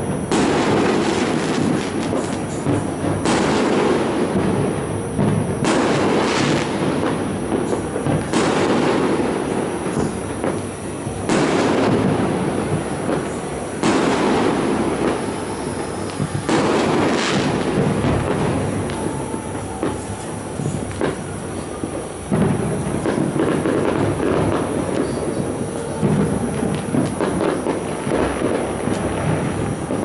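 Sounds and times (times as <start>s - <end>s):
fireworks crackling: 0.0s - 30.0s
loud fireworks bursts: 0.0s - 30.0s.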